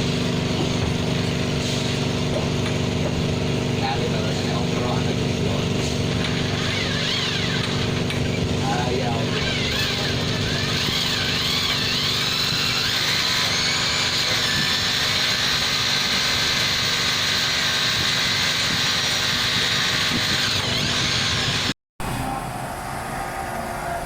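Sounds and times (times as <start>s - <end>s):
machine running with wavering whine: 2.3s - 24.0s.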